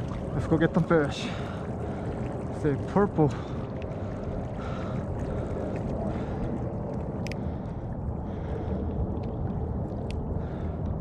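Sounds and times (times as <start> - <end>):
water swishing against hull: 0.0 - 11.0
wind rumble on microphone: 0.0 - 11.0.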